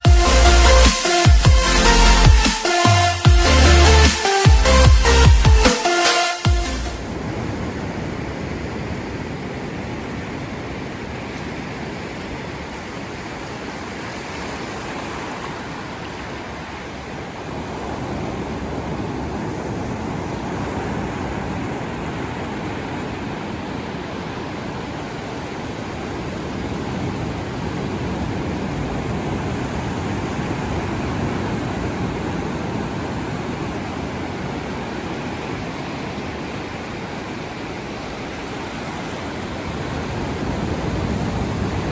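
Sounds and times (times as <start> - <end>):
ocean waves rushing surf: 0.0 - 41.9.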